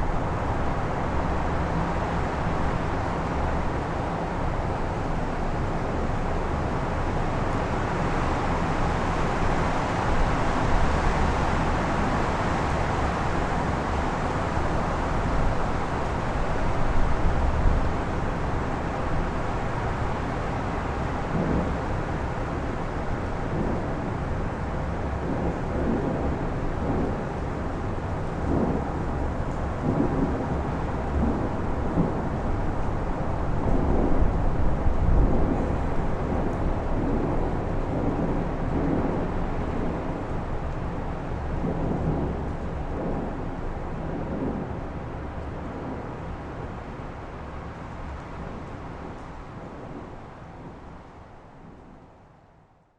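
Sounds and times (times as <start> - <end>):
strong wind gusting: 8.4 - 52.0.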